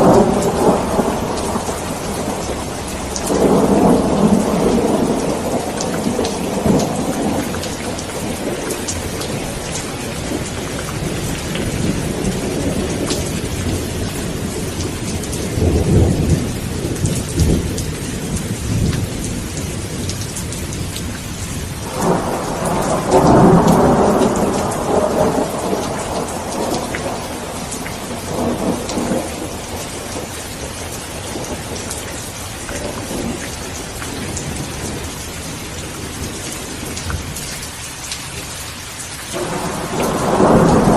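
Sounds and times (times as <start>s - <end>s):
rolling thunder: 0.0s - 37.6s, 39.3s - 40.9s
steady rain: 0.0s - 40.9s.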